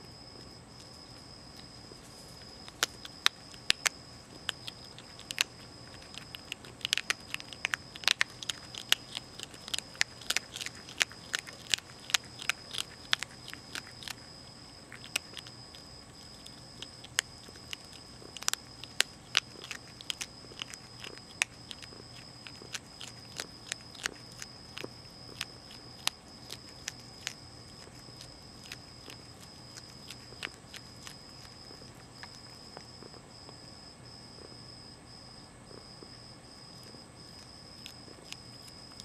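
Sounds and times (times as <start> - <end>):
animal crunching dry kibble: 0.1 - 34.7, 35.7 - 39.0.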